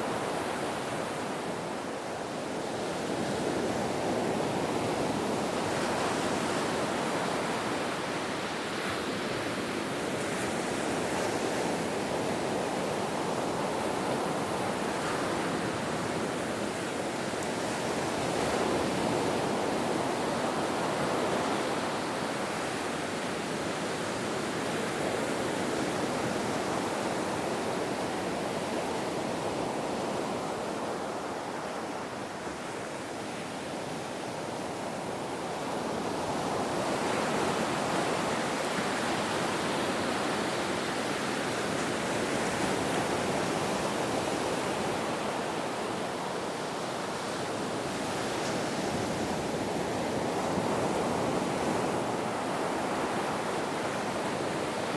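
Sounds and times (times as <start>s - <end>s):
ocean surf: 0.0s - 54.9s.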